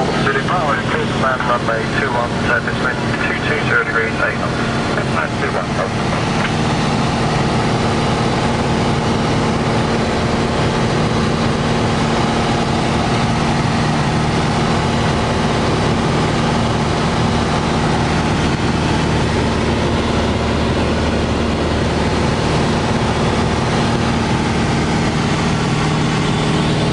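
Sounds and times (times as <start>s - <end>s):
airplane engine drone: 0.0s - 26.9s.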